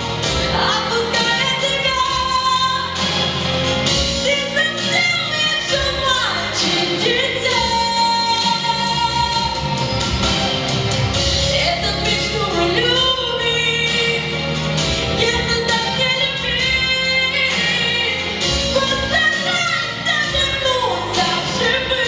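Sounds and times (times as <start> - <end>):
musical accompaniment: 0.0 - 22.0.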